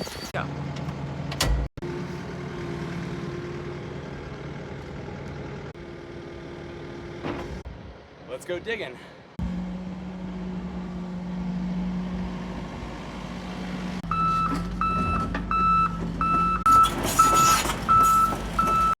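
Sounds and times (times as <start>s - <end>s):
diesel engine running: 0.4s - 8.2s, 9.2s - 19.0s.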